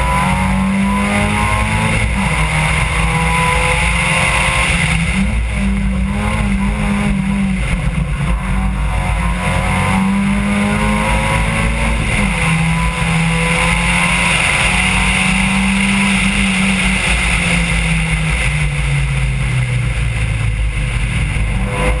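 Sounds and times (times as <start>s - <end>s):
car engine revving through gears: 0.0s - 22.0s
road and wind noise: 0.0s - 22.0s.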